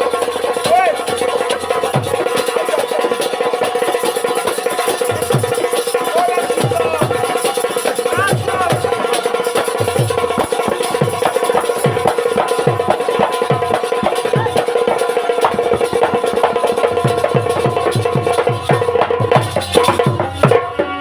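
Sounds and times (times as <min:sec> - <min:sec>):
fast drum strokes: 0:00.0 - 0:21.0.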